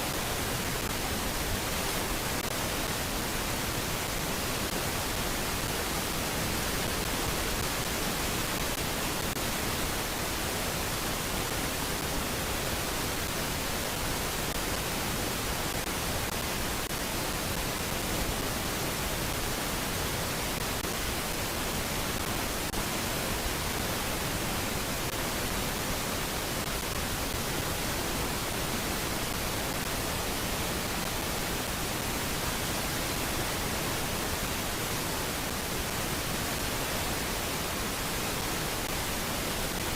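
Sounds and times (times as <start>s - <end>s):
steady even hiss: 0.0s - 39.9s.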